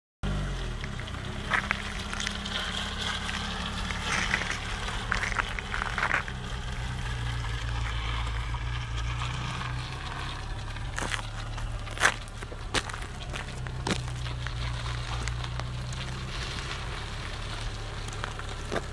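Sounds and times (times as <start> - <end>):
low engine hum: 0.2 - 18.9
tyres scraping wheel arches: 0.3 - 18.9.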